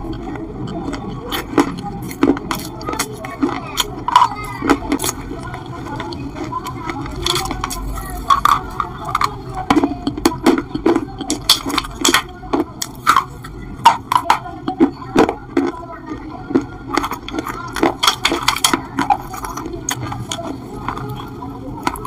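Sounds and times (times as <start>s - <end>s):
person chewing crunchy clay: 0.0s - 22.0s.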